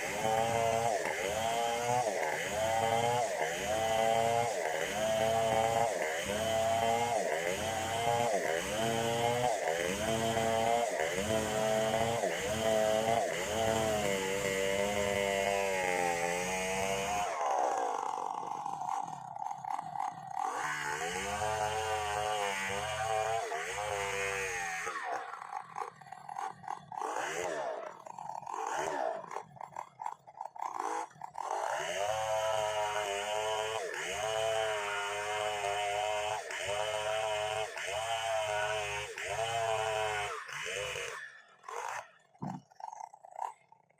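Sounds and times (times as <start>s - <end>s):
chainsaw cutting a log: 0.0s - 43.9s.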